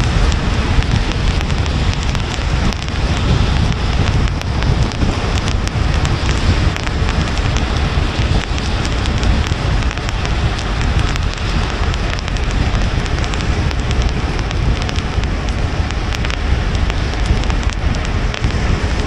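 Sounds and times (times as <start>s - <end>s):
rain pattering on a car: 0.0s - 19.0s
tyres rumbling on road: 0.0s - 19.0s.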